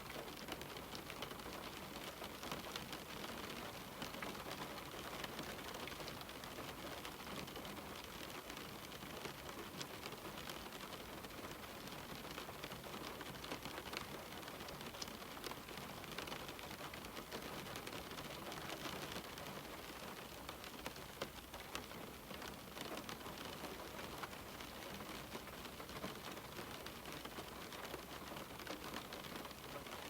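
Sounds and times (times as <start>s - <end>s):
rain on a window pane: 0.0s - 30.0s.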